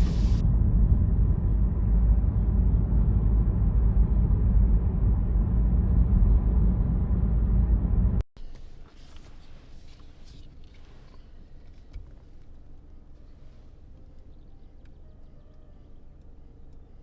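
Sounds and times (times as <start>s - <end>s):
car road and engine rumble: 0.0s - 15.1s.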